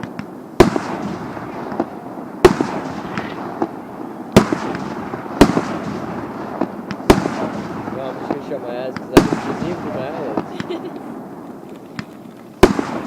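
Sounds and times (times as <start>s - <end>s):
continuous rumble: 0.0s - 13.0s
crackling pops: 0.0s - 13.0s
fireworks bangs: 0.0s - 13.0s.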